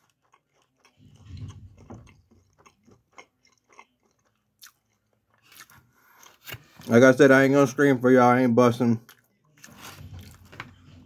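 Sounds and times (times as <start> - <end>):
soft crunching chewing: 0.0 - 7.1, 8.9 - 11.0.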